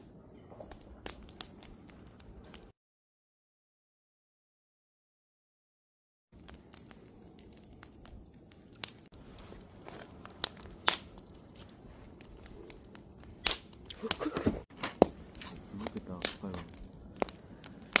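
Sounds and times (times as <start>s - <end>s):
wood fire crackling and popping: 0.0s - 2.7s, 6.3s - 18.0s.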